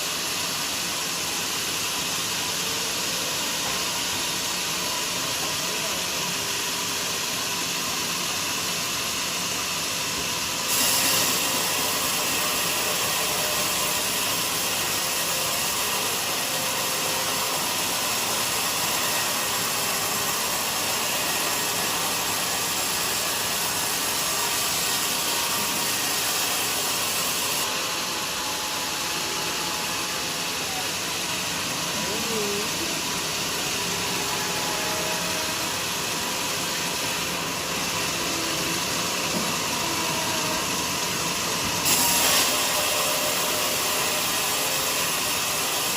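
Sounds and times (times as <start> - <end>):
band sawmill cutting log: 0.0 - 45.9.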